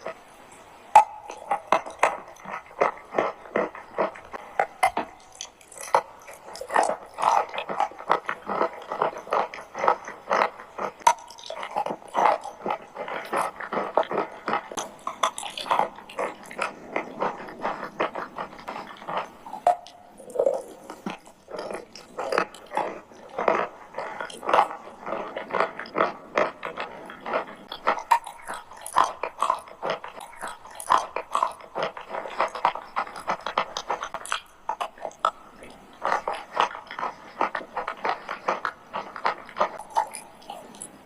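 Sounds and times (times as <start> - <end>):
crunchy chewing: 0.0 - 41.0
wet mouth sounds: 0.0 - 41.0.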